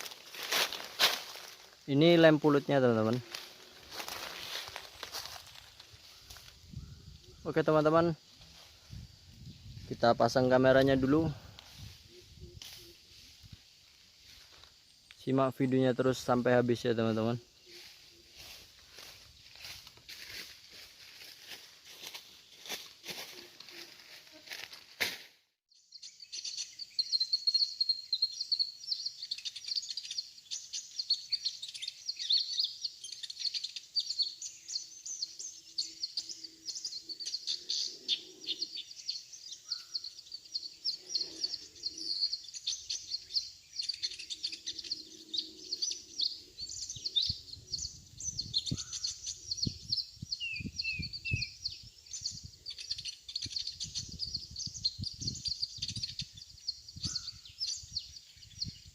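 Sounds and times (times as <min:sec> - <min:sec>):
sunbirds chirping and twittering: 0:00.0 - 0:24.8, 0:25.7 - 0:58.9.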